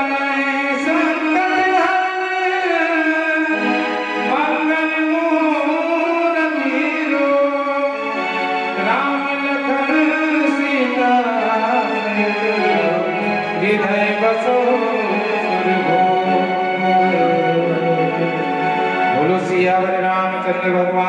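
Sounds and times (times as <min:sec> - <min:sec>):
devotional music with sliding melody: 0:00.0 - 0:21.0.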